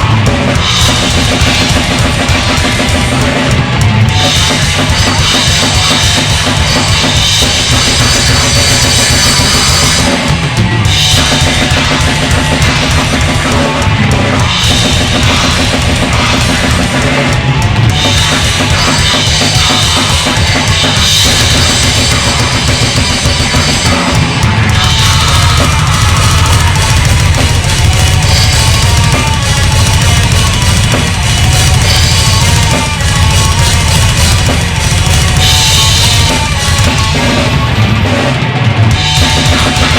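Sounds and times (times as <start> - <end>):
drum kit played hard: 0.0 - 39.9
heavy rock music: 0.0 - 39.9.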